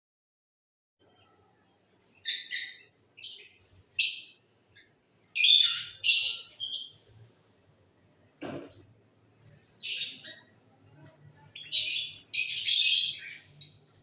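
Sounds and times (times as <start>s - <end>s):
lovebirds chirping: 1.2s - 7.2s, 8.0s - 14.0s.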